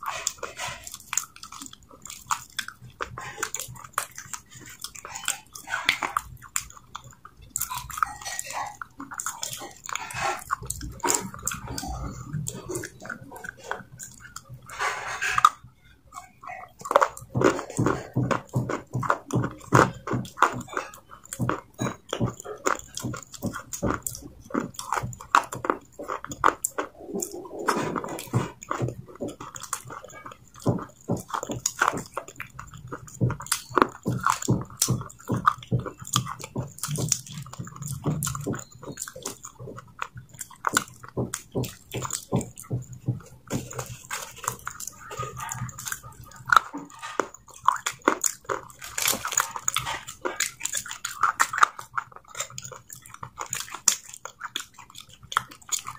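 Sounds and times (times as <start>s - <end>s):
wet chewing and lip smacking: 0.0s - 55.9s.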